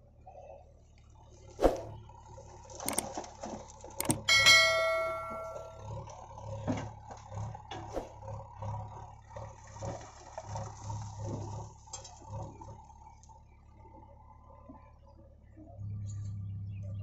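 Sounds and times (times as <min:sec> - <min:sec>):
diesel engines throbbing: 0:01.1 - 0:17.0.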